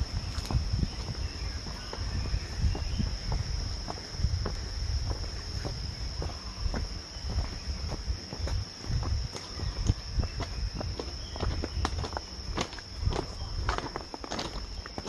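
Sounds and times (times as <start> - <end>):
crickets trilling: 0.0 - 15.0
footsteps crunching on gravel: 0.0 - 15.0.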